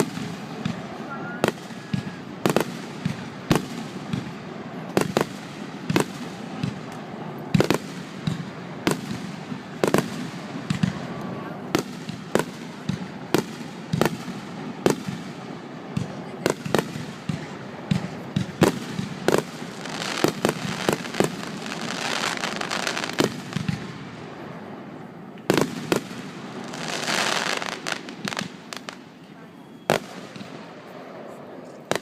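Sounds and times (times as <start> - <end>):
fireworks bangs: 0.0 - 24.8, 25.4 - 32.0
fireworks crackling: 0.0 - 32.0.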